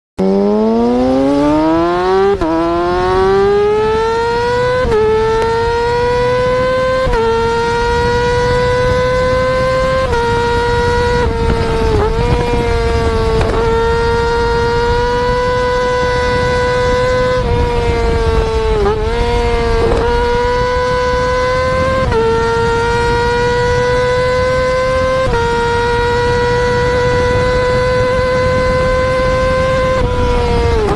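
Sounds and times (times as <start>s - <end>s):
motorcycle engine at high revs: 0.2s - 30.9s.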